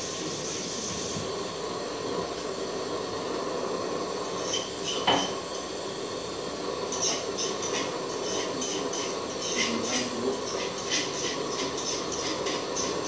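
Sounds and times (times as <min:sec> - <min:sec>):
stove burner hissing: 0:00.0 - 0:13.0.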